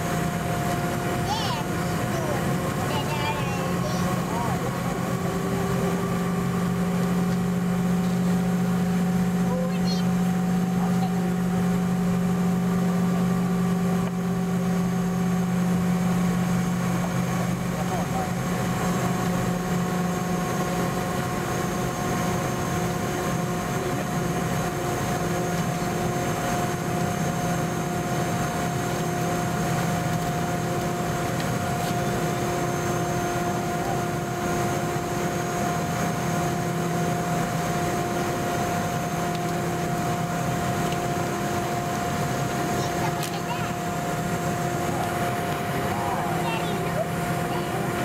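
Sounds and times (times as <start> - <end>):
jet engines humming: 0.0 - 48.0
mid-pitched engine whine: 0.0 - 48.0.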